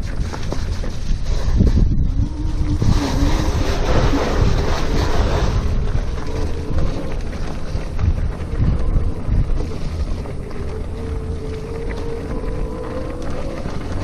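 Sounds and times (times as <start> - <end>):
tyre and road noise: 0.0 - 14.0
wind buffeting microphone: 0.0 - 14.0.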